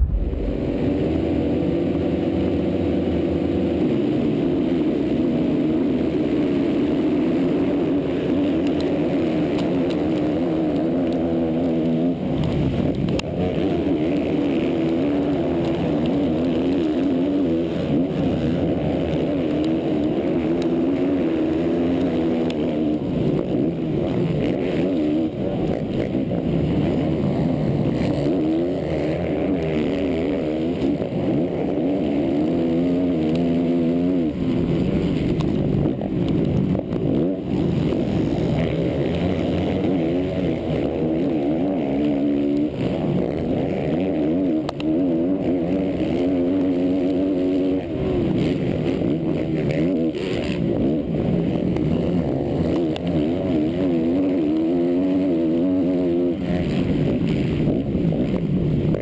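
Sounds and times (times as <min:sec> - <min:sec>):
motocross bike engine revving: 0:00.0 - 0:59.0
other motorbikes: 0:00.0 - 0:59.0.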